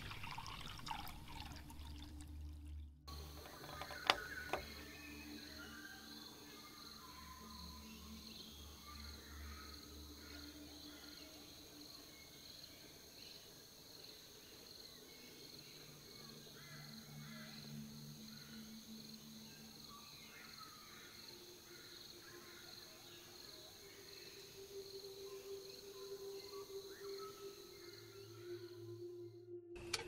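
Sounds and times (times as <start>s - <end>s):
faint insect chirps: 3.1s - 29.7s
insect drone: 3.1s - 29.7s.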